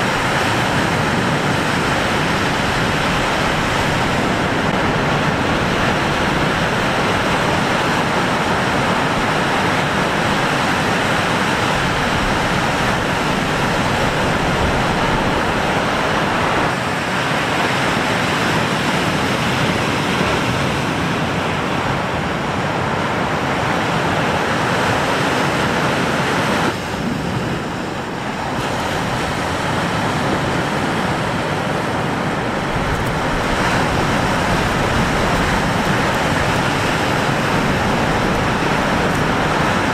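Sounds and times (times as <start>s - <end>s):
waves breaking: 0.0s - 39.9s
wind blowing across microphone: 0.0s - 39.9s.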